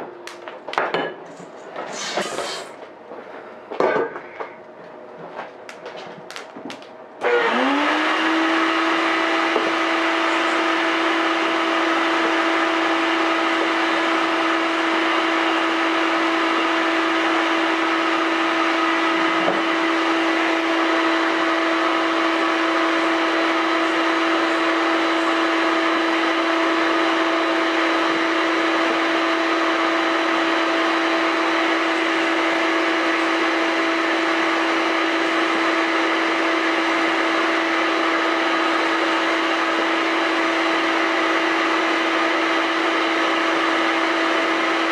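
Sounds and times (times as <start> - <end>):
electric motor whining: 7.2 - 44.8.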